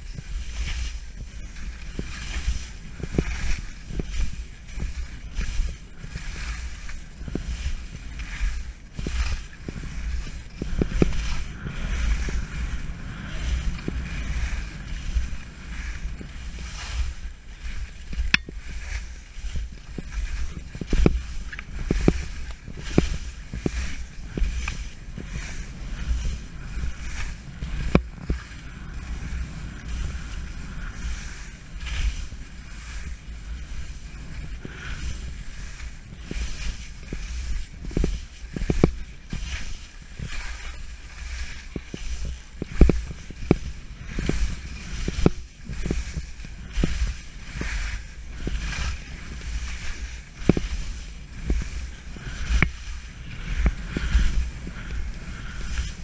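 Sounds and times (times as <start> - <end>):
skis knocking on bumps: 0.0 - 56.0
skis scraping over snow: 0.0 - 56.0
wind buffeting microphone: 0.0 - 56.0.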